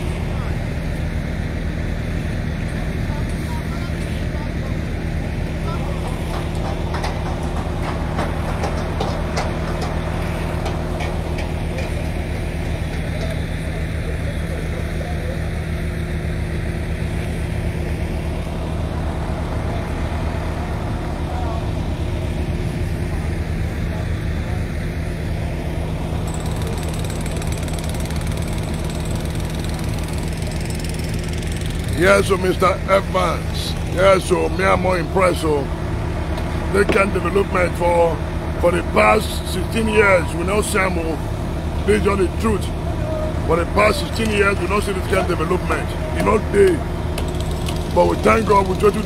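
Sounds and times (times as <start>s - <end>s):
engine running low hum: 0.0s - 49.0s.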